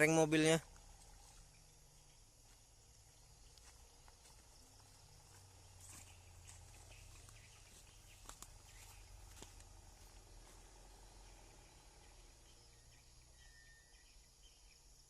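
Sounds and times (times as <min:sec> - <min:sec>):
low steady hum: 0:00.6 - 0:15.0.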